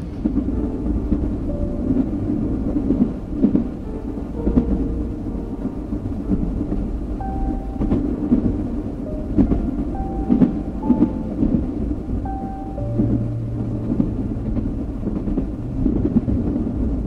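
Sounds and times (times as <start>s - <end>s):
train rumbling inside car: 0.0s - 17.0s
wheels clacking: 0.0s - 17.0s.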